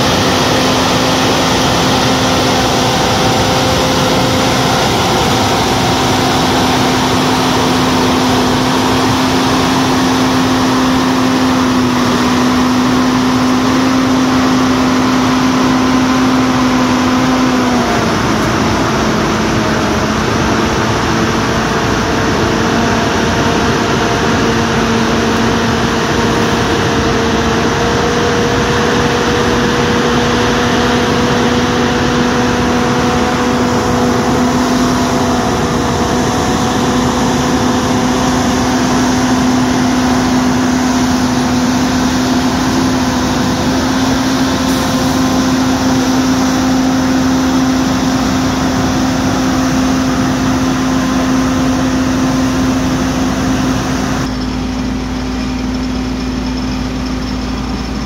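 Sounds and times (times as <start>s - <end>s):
steady whine: 0.0s - 58.0s
truck engine running steadily: 0.0s - 58.0s.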